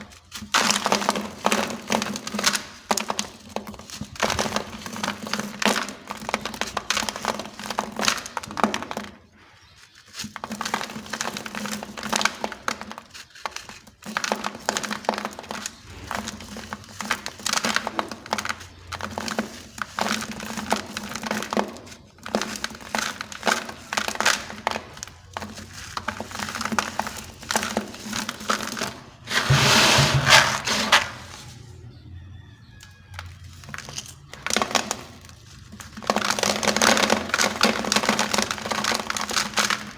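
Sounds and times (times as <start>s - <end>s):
blocks crumbling and crunching: 0.0s - 31.6s, 33.3s - 39.9s.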